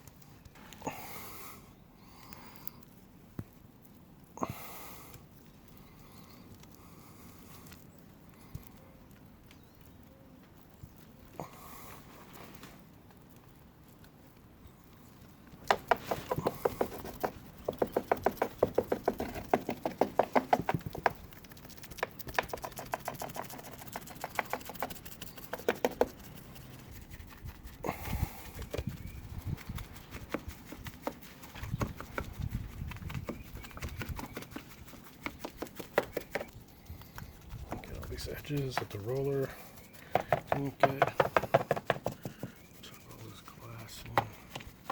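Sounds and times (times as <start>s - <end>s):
wet ticking of resin application: 2.0s - 12.1s, 12.8s - 44.9s.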